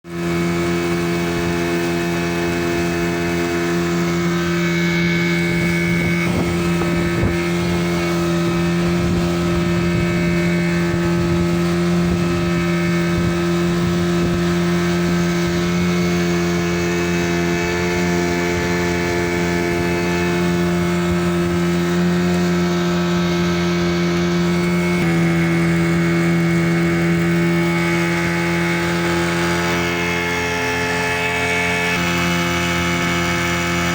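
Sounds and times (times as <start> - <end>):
boat engine droning: 0.0 - 33.9.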